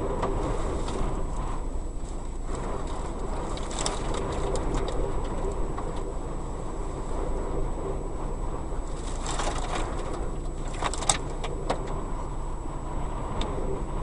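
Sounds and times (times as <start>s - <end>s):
street traffic: 0.0s - 14.0s
wind rumbling on microphone: 0.0s - 14.0s.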